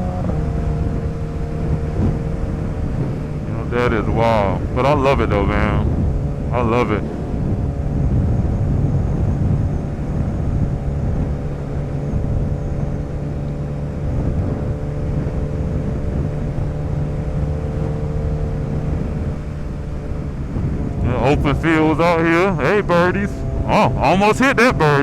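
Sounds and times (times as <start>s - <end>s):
motorcycle engine drone: 0.0s - 25.0s
road and wind rumble: 0.0s - 25.0s.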